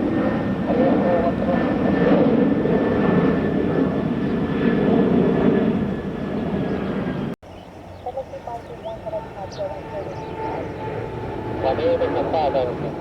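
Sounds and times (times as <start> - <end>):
jet airliner engines passing: 0.0 - 13.0.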